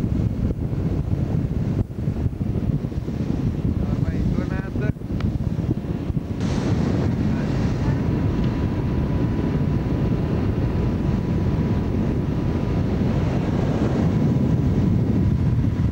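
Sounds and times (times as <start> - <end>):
motorboat engine running: 0.0 - 15.9
wind on microphone: 0.0 - 15.9.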